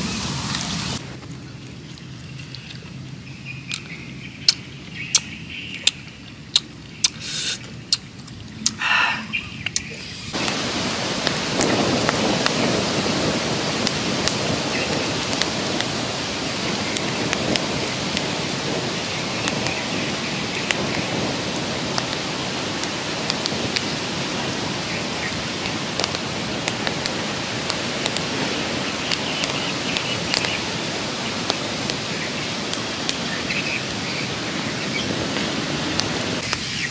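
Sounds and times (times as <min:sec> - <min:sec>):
wood fire crackling: 0:00.0 - 0:03.8, 0:09.8 - 0:36.9.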